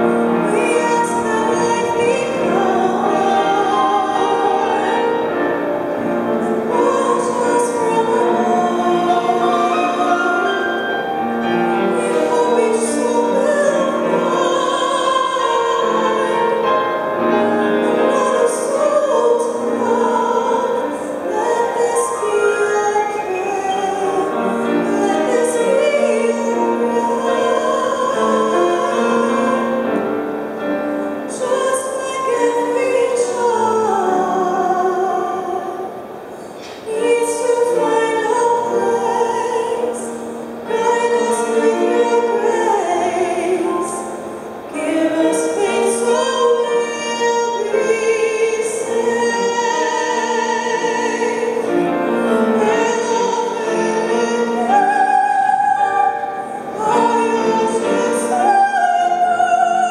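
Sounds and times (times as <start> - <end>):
piano accompaniment: 0.0 - 59.9
woman singing ballad: 0.0 - 59.9.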